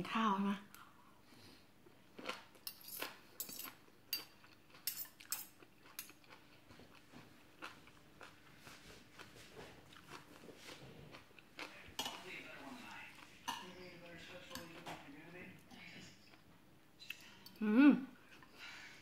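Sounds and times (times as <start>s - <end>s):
soft chewing: 0.7s - 19.0s.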